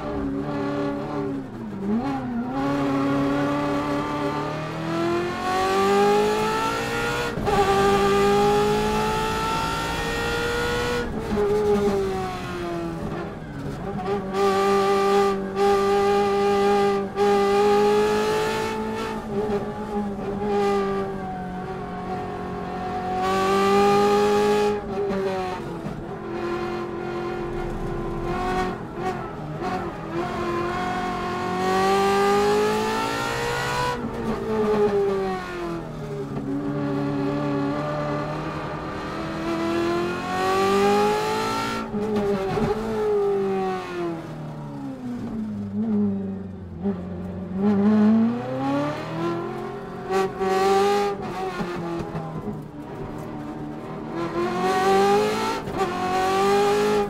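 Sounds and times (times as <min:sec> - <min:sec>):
rally car engine racing: 0:00.0 - 0:57.0.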